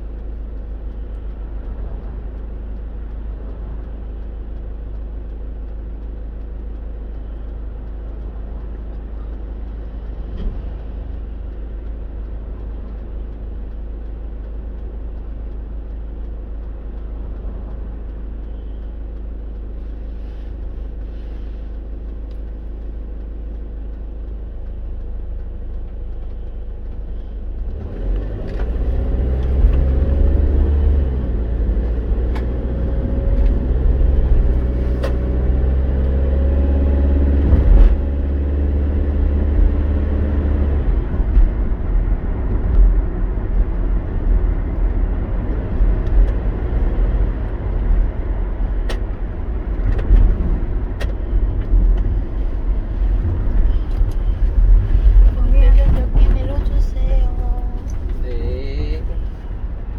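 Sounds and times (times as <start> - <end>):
car engine and road rumble: 0.0 - 59.9
light ticks: 0.0 - 59.9.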